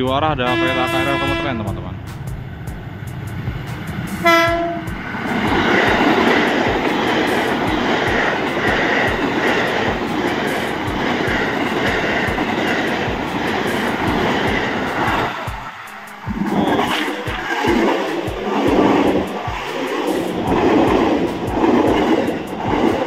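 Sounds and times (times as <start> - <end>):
train passing close by: 0.0 - 23.0
train horn blast: 0.4 - 2.0, 4.2 - 23.0
wheels clacking over rail joints: 2.1 - 23.0.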